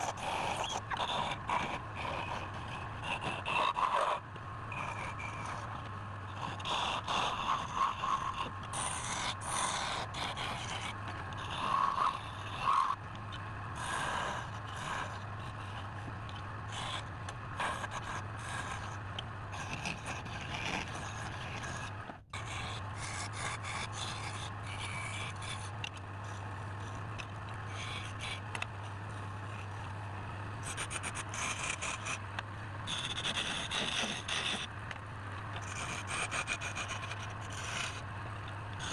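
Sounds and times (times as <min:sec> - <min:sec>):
turning tool scraping wood: 0:00.0 - 0:30.0, 0:30.6 - 0:38.9
wood lathe motor humming: 0:00.0 - 0:38.9.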